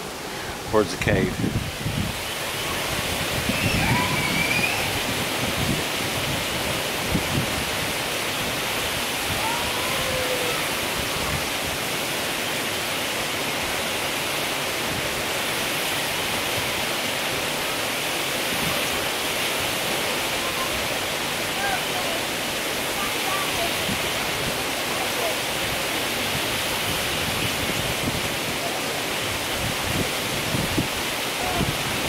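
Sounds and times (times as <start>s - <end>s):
large waterfall rushing: 0.0s - 32.0s.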